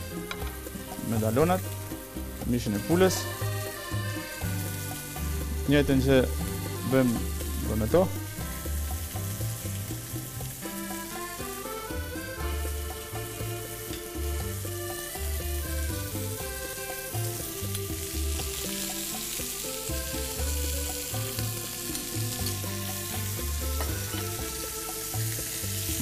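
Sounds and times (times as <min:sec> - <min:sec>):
background music with bass line: 0:00.0 - 0:26.0
skewers sizzling on a griddle: 0:00.0 - 0:26.0.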